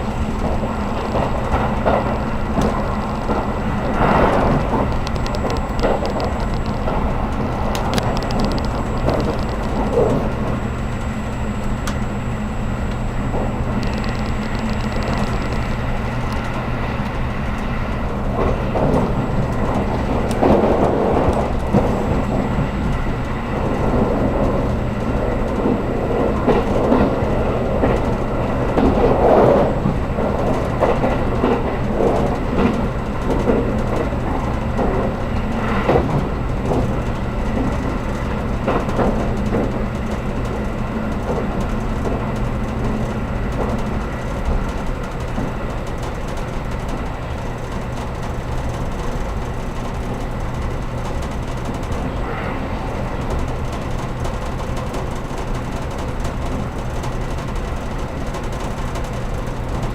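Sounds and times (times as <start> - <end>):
constant low hum: 0.0 - 59.9
train wheels rumbling on rails: 0.0 - 59.9.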